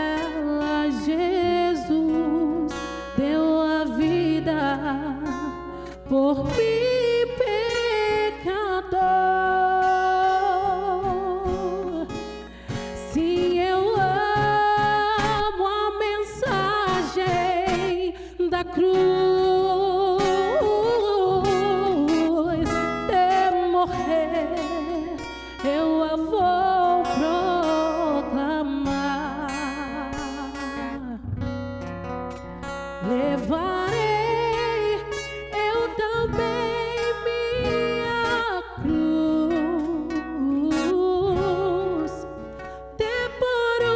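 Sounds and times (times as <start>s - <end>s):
woman singing with vibrato: 0.0s - 31.6s, 32.6s - 43.9s
acoustic guitar picked: 0.0s - 43.9s.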